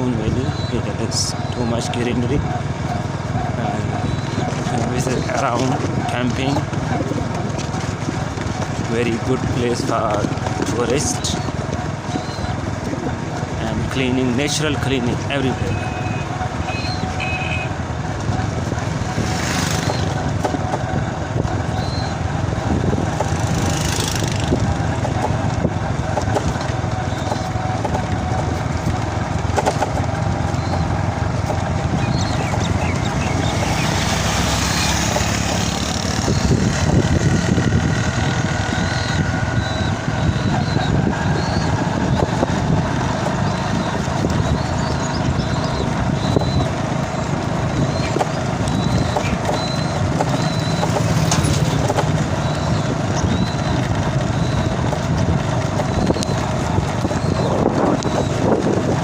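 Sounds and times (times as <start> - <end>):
road noise: 0.0 - 59.0
small motorcycle engine running: 0.0 - 59.0
wind: 0.0 - 59.0.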